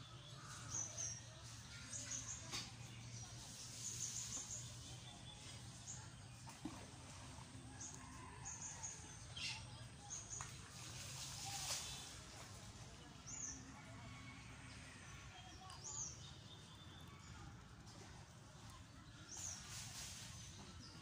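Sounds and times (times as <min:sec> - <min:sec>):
faint outdoor ambience: 0:00.0 - 0:21.0.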